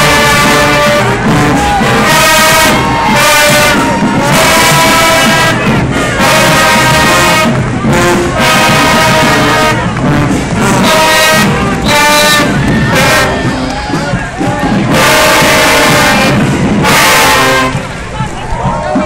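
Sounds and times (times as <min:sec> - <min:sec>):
marching band brass playing: 0:00.0 - 0:19.0.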